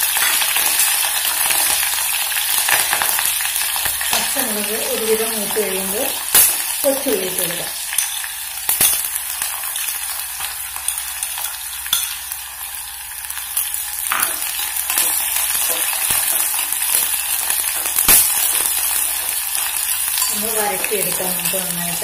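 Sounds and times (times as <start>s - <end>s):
shallots sizzling in hot oil: 0.0s - 22.0s.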